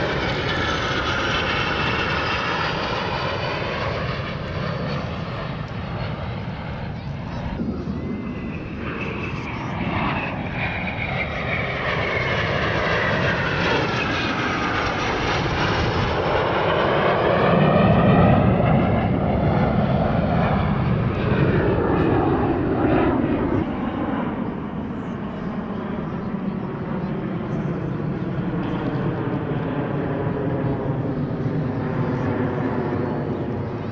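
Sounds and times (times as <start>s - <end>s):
jet engines roaring overhead: 0.0s - 33.9s.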